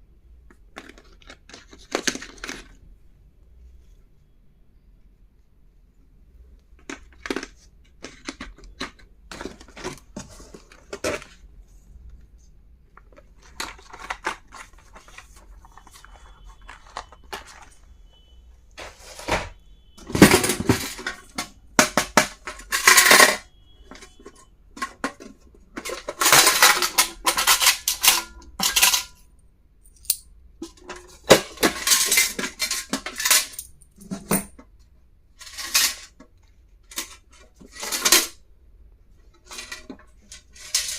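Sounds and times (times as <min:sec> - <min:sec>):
stationery items clicking and clinking: 0:00.4 - 0:02.8, 0:06.8 - 0:12.2, 0:12.9 - 0:38.4, 0:39.3 - 0:40.9
items clattering: 0:00.5 - 0:02.8, 0:06.8 - 0:38.4, 0:39.2 - 0:40.9.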